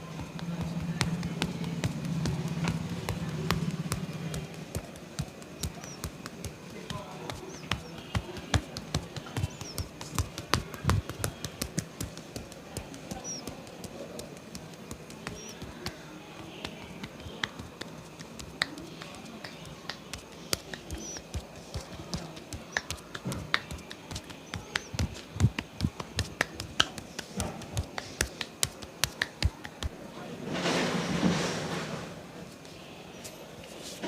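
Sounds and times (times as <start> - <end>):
hands patting and slapping body: 0.0 - 30.0.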